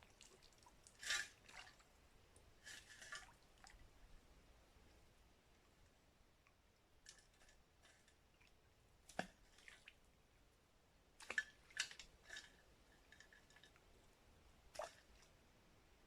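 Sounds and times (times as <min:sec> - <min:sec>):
faint wet squelches and clicks: 0:00.0 - 0:04.1, 0:04.8 - 0:10.5, 0:11.2 - 0:15.4.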